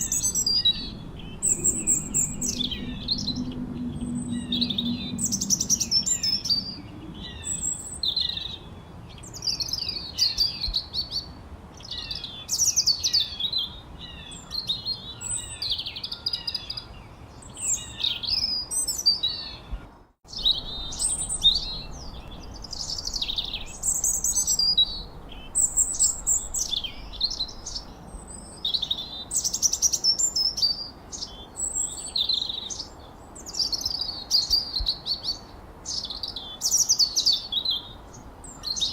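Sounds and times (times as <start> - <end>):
faint background hiss: 0.0 - 38.9
songbirds chirping and whistling: 0.0 - 38.9.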